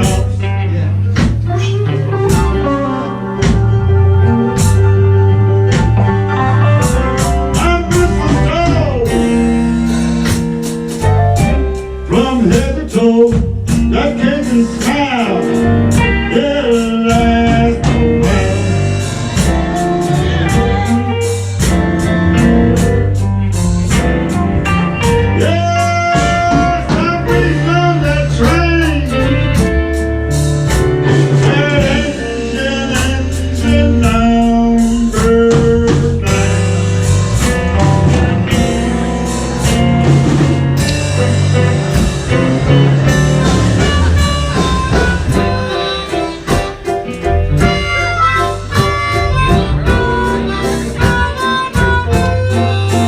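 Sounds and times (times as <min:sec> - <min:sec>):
bass guitar: 0:00.0 - 0:53.0
blues band playing: 0:00.0 - 0:53.0
drum kit beat: 0:00.0 - 0:53.0
electric guitar: 0:00.0 - 0:53.0.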